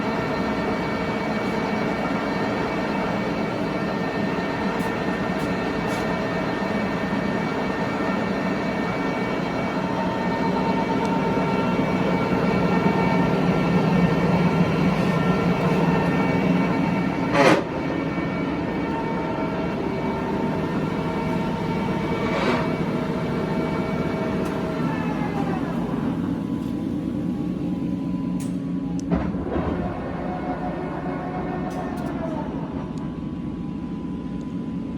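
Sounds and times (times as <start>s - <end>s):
lathe gear whine and hum: 0.0s - 34.9s.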